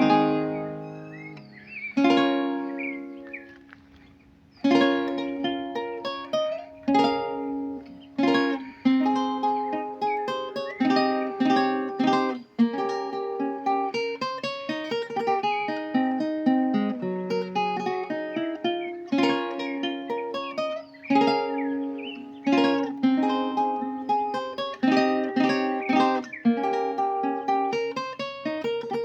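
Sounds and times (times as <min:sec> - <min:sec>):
guitar chords strummed: 0:00.0 - 0:03.8, 0:04.7 - 0:29.0
guitar picked melody runs: 0:00.0 - 0:29.0.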